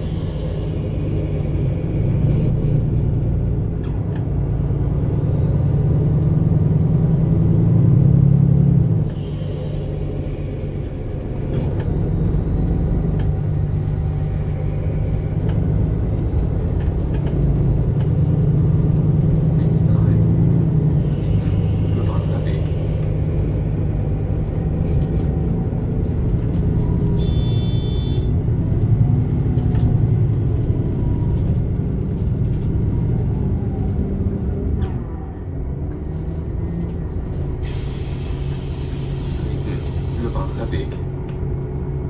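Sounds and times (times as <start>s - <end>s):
bus diesel engine droning: 0.0s - 42.0s.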